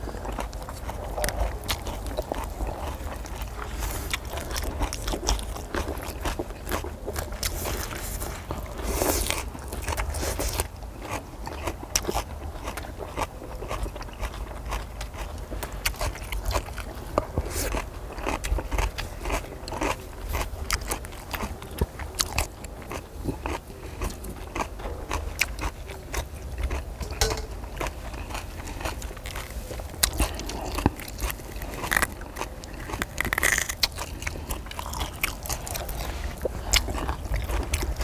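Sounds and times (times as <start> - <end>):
chewing and crunching: 0.0 - 38.0
steady low hum: 0.0 - 38.0.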